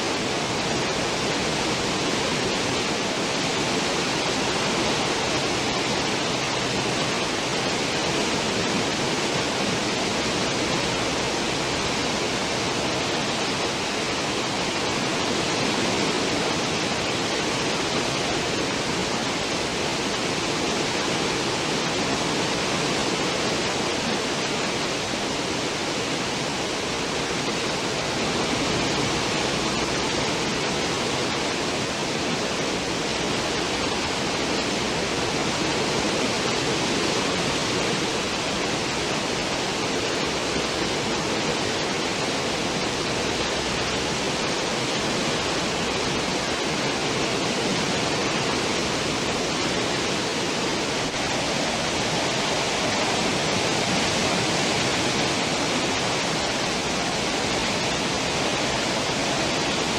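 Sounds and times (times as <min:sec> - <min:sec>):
ship wake water rushing: 0:00.0 - 0:59.9.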